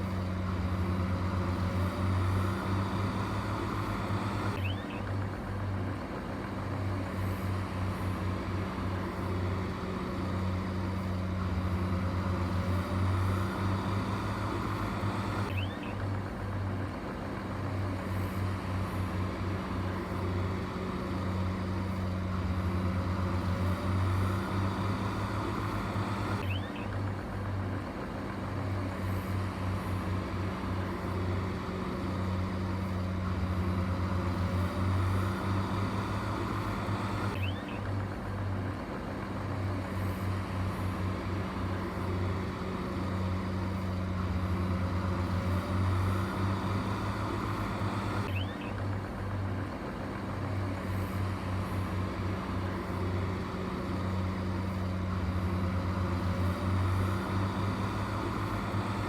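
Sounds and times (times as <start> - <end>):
heavy machinery engine droning: 0.0 - 59.0.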